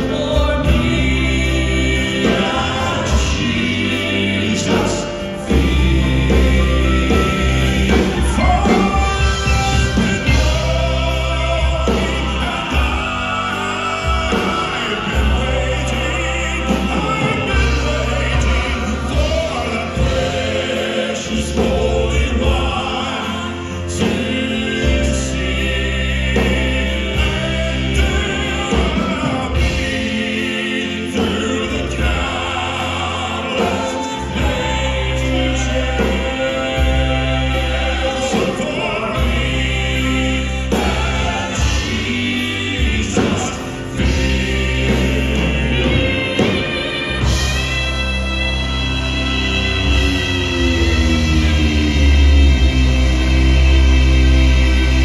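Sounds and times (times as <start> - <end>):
drums: 0.0 - 55.0
keyboard: 0.0 - 55.0
male quartet singing in harmony: 0.0 - 55.0.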